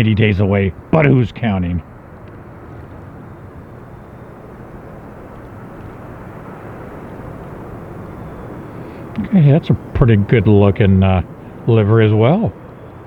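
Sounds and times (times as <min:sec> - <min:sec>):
distant jet airliner rumble: 0:00.0 - 0:13.0.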